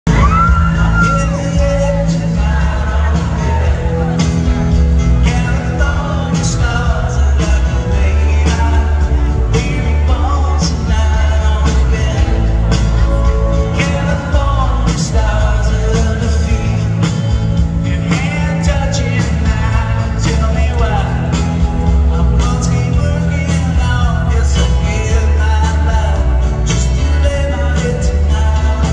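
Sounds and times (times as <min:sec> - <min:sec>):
live country-rock band: 0:00.0 - 0:28.9
man singing lead: 0:00.1 - 0:28.9.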